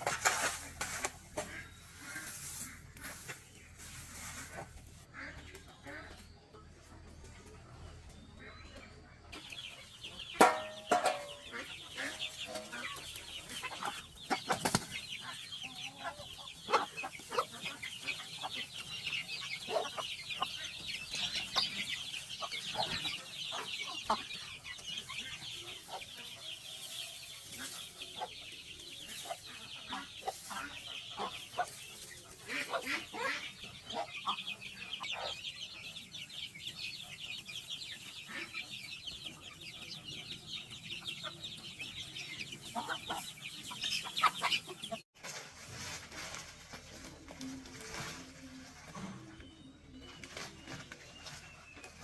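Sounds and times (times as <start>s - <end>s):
chickens clucking and cheeping: 0.0s - 52.0s.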